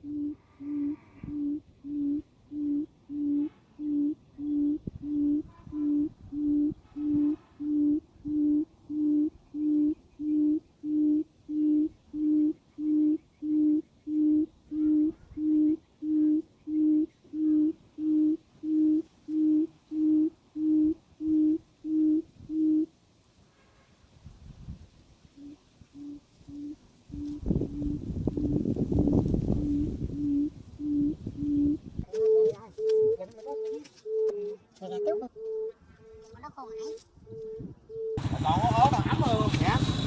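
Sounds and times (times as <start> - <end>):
recorded quail call hooting: 0.0 - 22.9, 25.3 - 40.0.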